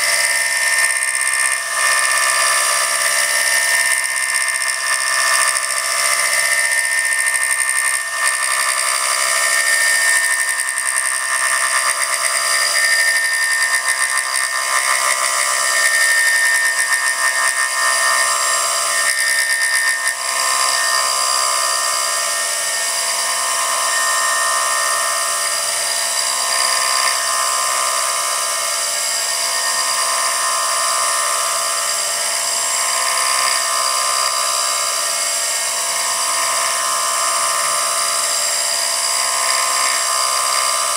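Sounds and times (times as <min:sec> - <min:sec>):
metal cutting noise: 0:00.0 - 0:40.9
spindle high-pitched whine: 0:00.0 - 0:40.9.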